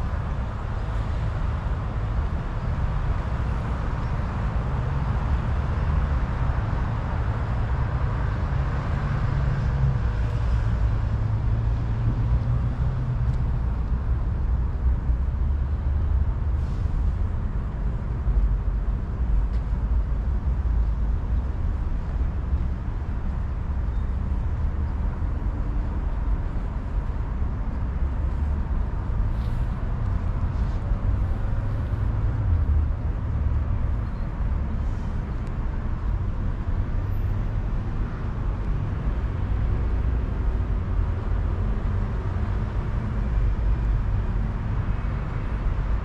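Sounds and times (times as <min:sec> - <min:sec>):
traffic rumble: 0:00.0 - 0:46.0.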